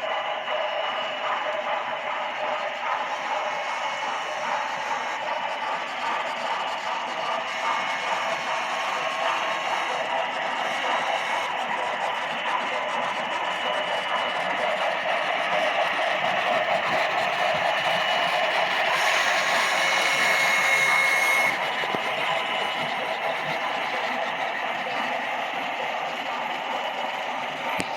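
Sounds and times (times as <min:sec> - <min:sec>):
model train rolling: 0:00.4 - 0:27.9.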